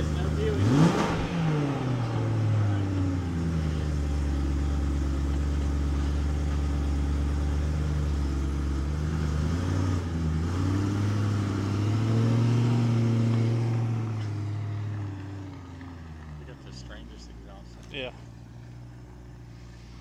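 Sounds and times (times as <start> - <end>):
car engine idling high: 0.0 - 20.0.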